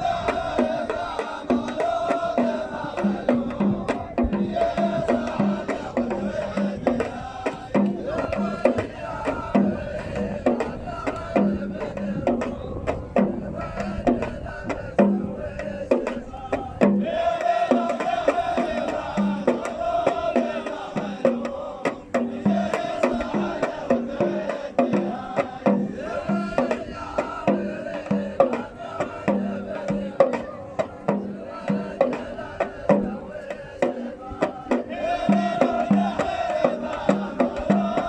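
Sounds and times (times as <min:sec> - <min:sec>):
drum beats: 0:00.0 - 0:38.0
men chanting together: 0:00.0 - 0:38.0.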